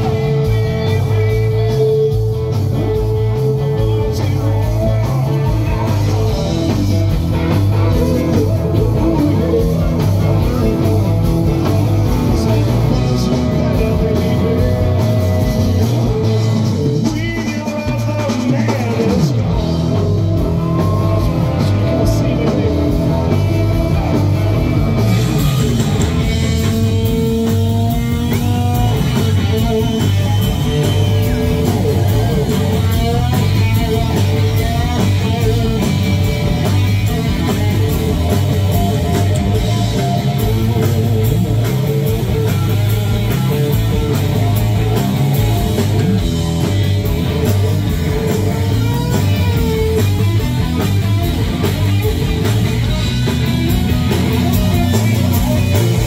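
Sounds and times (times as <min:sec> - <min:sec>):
bass and drums: 0:00.0 - 0:56.0.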